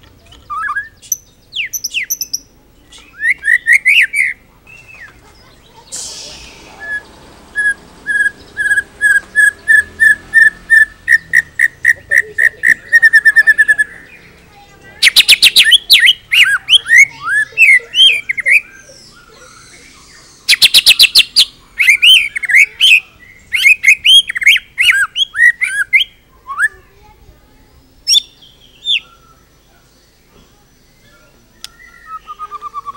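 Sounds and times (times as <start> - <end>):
songbird singing and trilling: 0.0 - 32.9.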